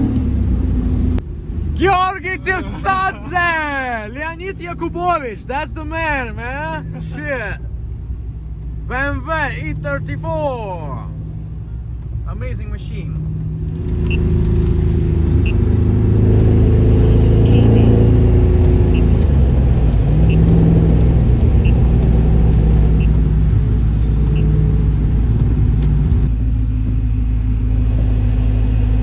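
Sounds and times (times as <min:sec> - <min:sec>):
car engine running under load: 0:00.0 - 0:29.0.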